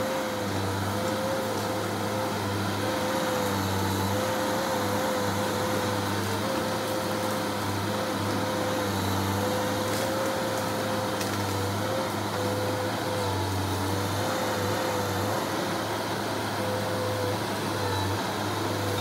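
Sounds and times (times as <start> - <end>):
bulldozer diesel engine droning: 0.0 - 19.0.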